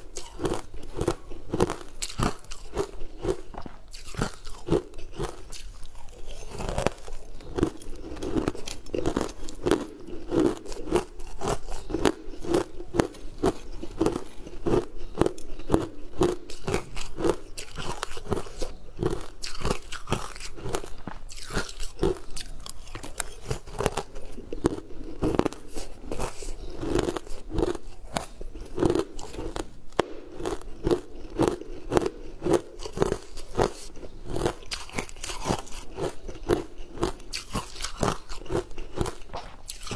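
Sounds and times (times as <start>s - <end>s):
chewing: 0.0s - 39.9s
crunching frozen ice: 0.0s - 39.9s.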